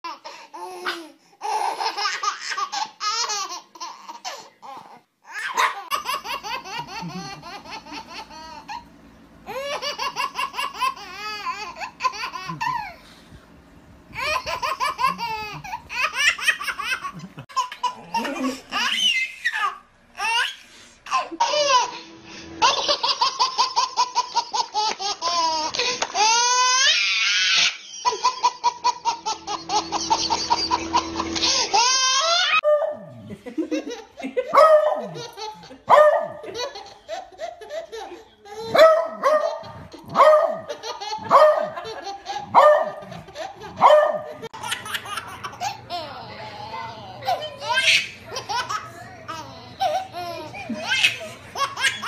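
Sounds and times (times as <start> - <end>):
babies laughing: 0.1 - 13.2, 14.1 - 32.6, 33.2 - 52.0.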